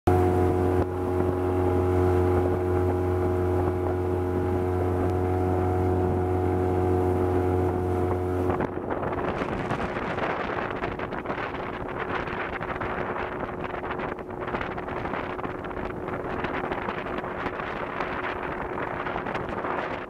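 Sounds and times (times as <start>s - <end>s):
outboard motor running: 0.1s - 20.0s
rush of wake and wind: 0.1s - 20.0s.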